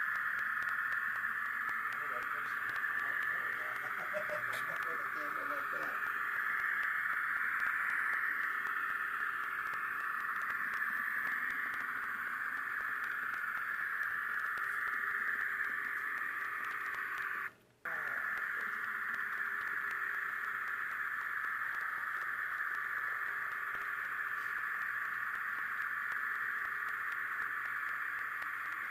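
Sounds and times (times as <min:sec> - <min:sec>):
faint low hum: 0:00.0 - 0:28.9
model train running on track: 0:00.0 - 0:28.9.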